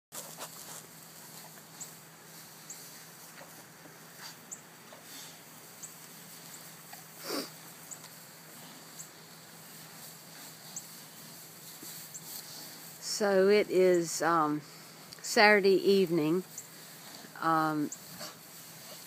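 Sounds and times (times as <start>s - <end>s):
hay rustling: 0.1s - 19.0s
pigs snuffling: 0.1s - 19.0s.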